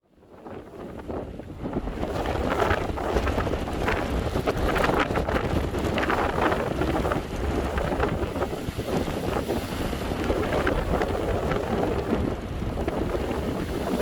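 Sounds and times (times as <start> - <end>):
wind buffeting microphone: 0.1 - 14.0
waves breaking: 0.4 - 14.0.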